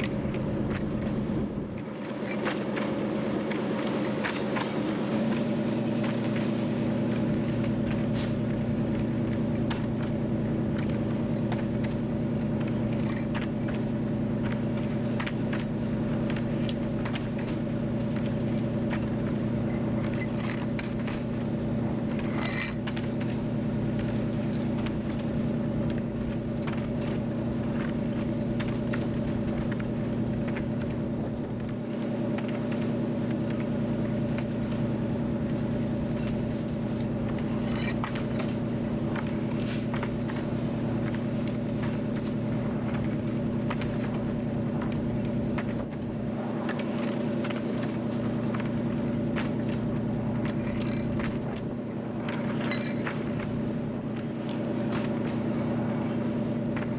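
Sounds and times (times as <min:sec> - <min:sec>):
diesel locomotive engine drone: 0:00.0 - 0:56.9.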